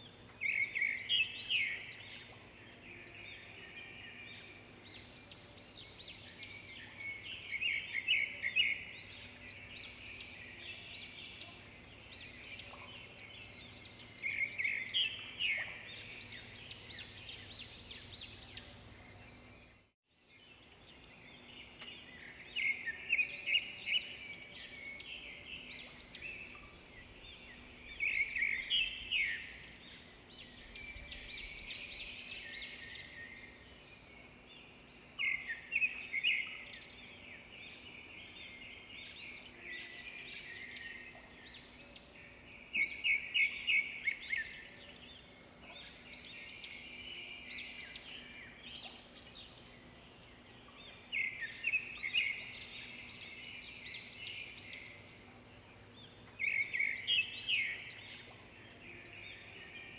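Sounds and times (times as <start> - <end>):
faint outdoor background: 0.0 - 59.9
songbirds singing and chirping: 0.0 - 59.9.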